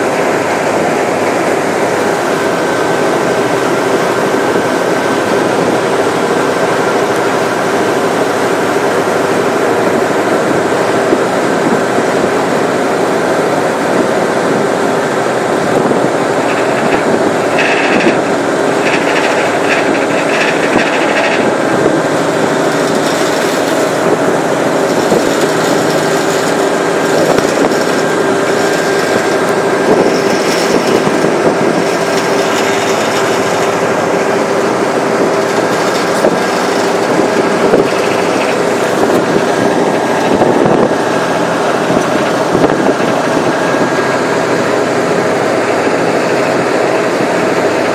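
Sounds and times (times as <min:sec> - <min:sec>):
ferry engines droning: 0:00.0 - 0:47.9
rushing noise: 0:00.0 - 0:47.9.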